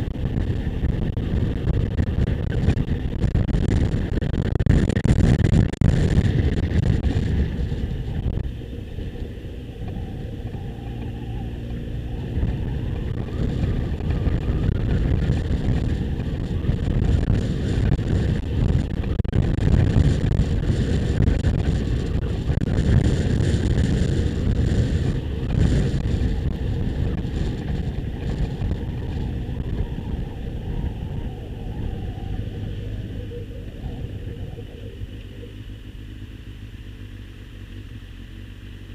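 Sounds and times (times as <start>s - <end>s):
wind buffeting microphone: 0.0s - 37.2s
motorcycle engine running: 0.0s - 38.9s.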